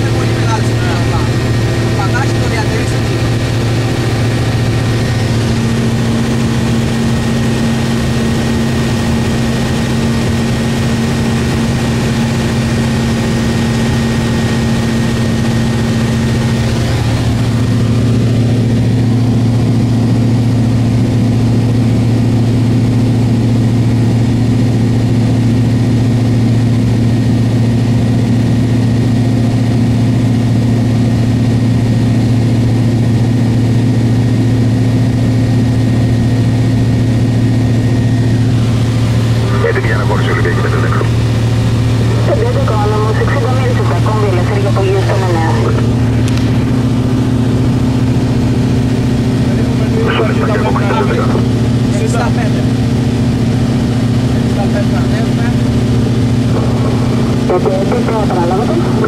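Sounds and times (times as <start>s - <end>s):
airplane engine drone in cabin: 0.0s - 59.0s.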